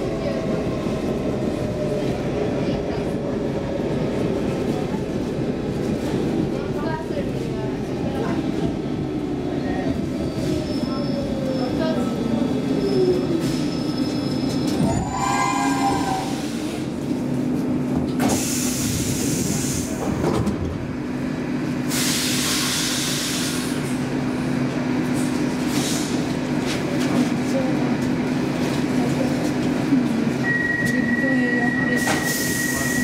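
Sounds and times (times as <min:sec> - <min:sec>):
train low hum: 0:00.0 - 0:33.0.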